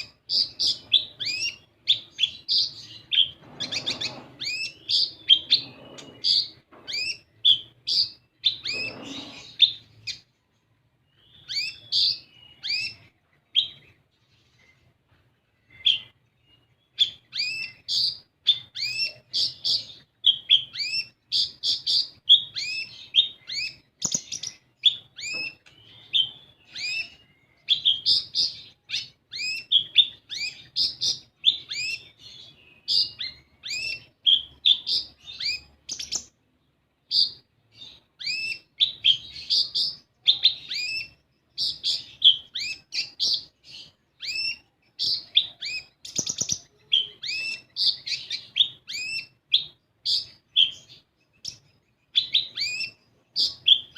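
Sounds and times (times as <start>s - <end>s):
sunbird singing high chirps: 0.0s - 10.4s, 11.0s - 14.9s, 15.5s - 53.9s.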